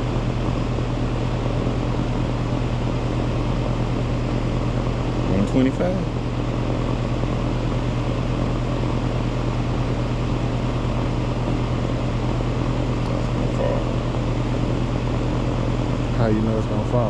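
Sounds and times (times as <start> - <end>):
air conditioner hum: 0.0 - 17.0
fan rushing: 0.0 - 17.0.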